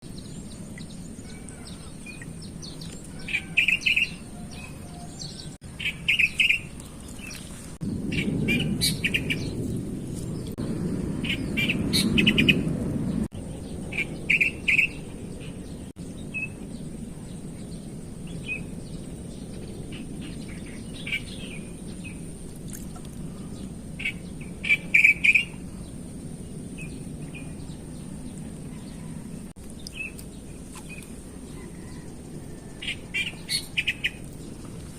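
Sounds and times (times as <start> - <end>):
birds chirping: 0.0 - 34.9
low background rumble: 0.0 - 34.9.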